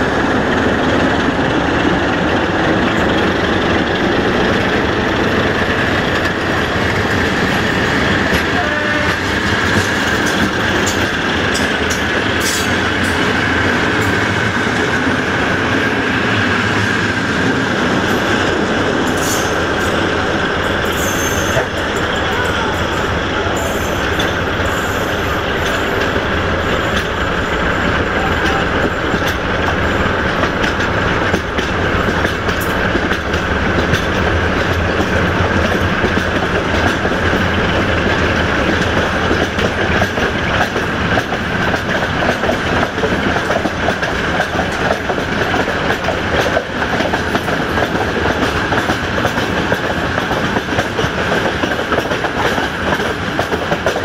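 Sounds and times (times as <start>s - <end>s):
diesel locomotive hum: 0.0s - 54.0s
train wheels clattering over joints: 0.0s - 54.0s.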